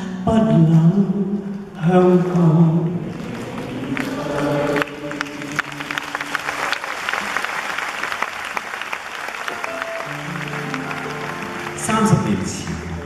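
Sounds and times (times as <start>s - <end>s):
large audience applauding: 2.2s - 13.0s.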